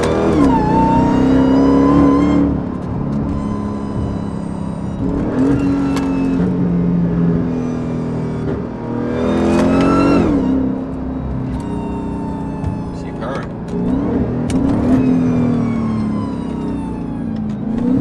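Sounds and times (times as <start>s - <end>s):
car engine revving: 0.0s - 18.0s
supercharger whine: 0.0s - 18.0s.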